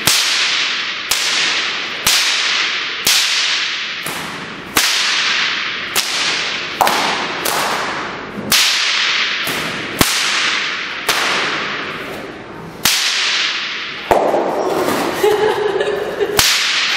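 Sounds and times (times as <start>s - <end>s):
whip cracking with echo: 0.0s - 15.3s, 16.2s - 16.9s.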